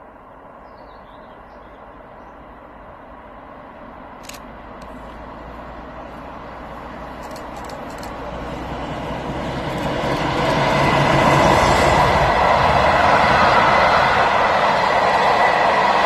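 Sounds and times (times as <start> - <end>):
train approaching: 0.0 - 16.0.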